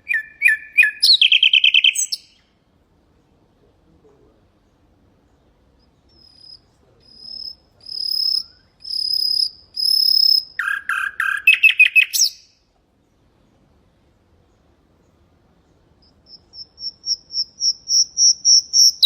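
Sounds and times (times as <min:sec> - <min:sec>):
nightingale singing: 0:00.0 - 0:03.4, 0:04.5 - 0:13.6, 0:14.4 - 0:19.0.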